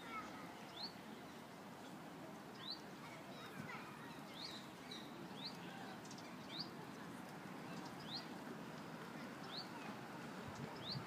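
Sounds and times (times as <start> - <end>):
low steady background murmur: 0.0 - 11.0.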